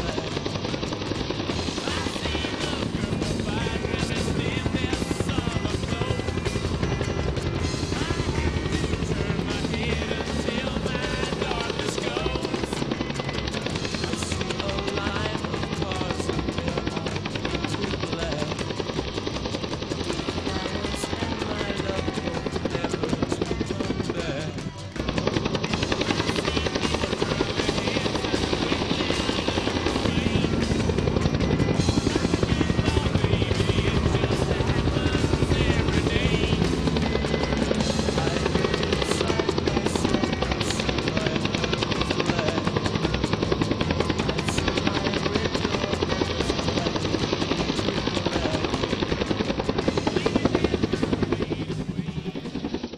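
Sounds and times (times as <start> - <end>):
helicopter rotor chopping: 0.0 - 52.9
music: 0.0 - 52.9.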